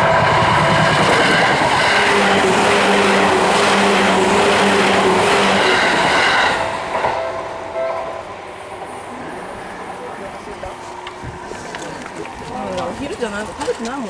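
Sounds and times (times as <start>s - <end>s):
level crossing warning bell: 0.0s - 14.0s
train wheels rushing on rails: 0.0s - 14.0s.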